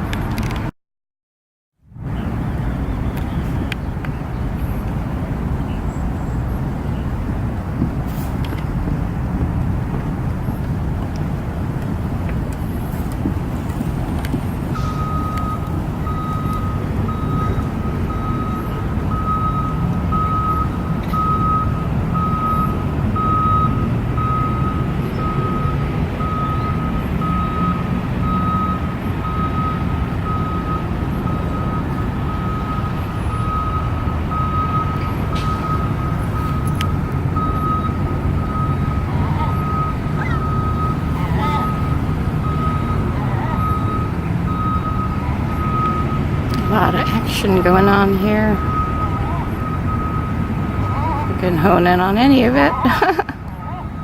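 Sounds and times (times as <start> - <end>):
low engine rumble: 1.8 - 54.0
vehicle back-up alarm beeping: 10.0 - 54.0.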